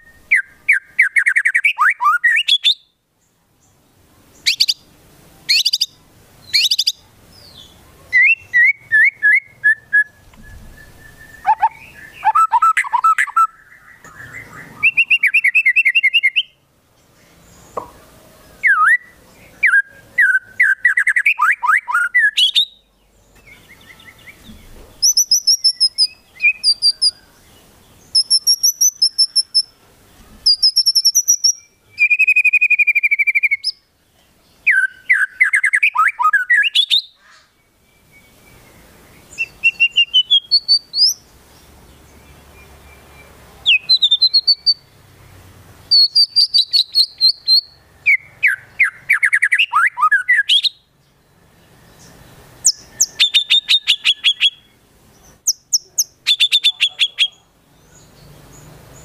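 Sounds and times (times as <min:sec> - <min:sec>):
bird singing rapid chirps and trills: 0:00.0 - 0:59.0.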